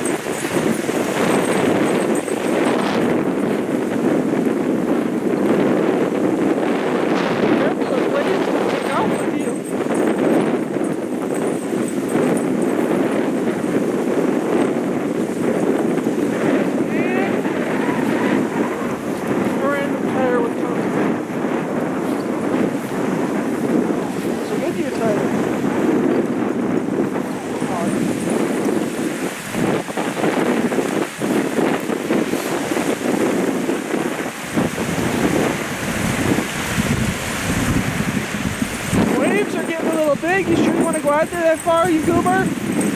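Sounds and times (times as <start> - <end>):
waves washing onto shore: 0.0 - 42.9
wind: 0.0 - 42.9.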